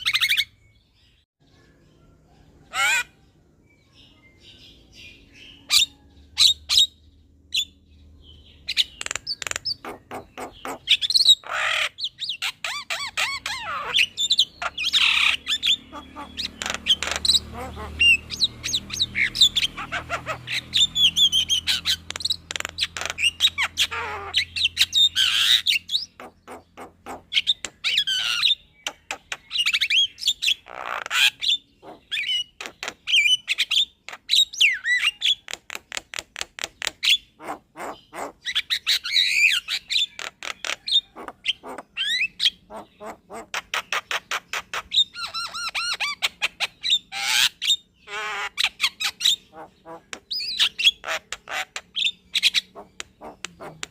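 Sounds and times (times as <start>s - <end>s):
bird singing varied song: 0.0s - 53.9s.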